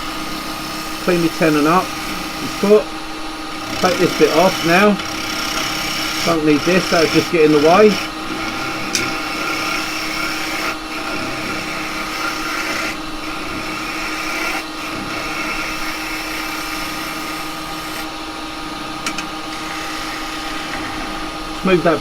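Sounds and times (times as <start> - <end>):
gouge cutting spinning wood: 0.0 - 22.0
lathe motor humming: 0.0 - 22.0.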